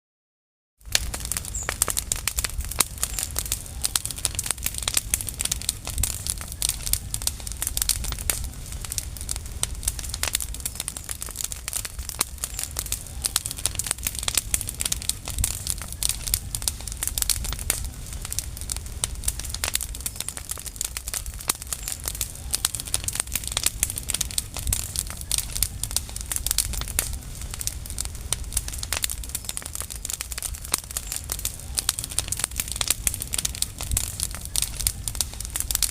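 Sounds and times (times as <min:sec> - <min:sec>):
leaves crackling and popping: 0:00.8 - 0:35.9
low rumble: 0:00.9 - 0:35.9.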